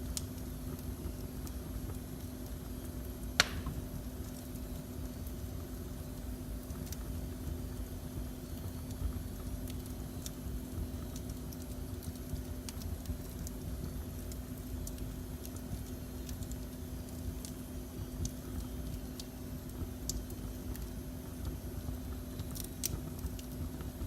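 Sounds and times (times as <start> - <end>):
faint steady hum: 0.0 - 24.0
wood fire crackling: 0.0 - 24.0.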